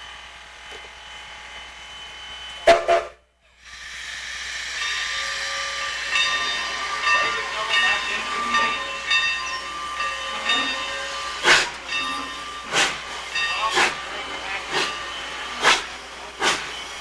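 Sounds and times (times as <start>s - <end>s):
steam locomotive exhaust chuffs: 0.0s - 17.0s
hiss of steam: 0.8s - 17.0s.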